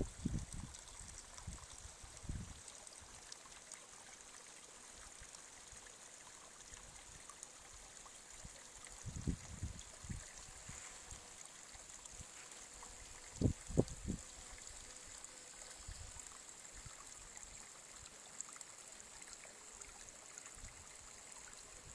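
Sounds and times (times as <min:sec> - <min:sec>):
brook trickling over stones: 0:00.0 - 0:21.9.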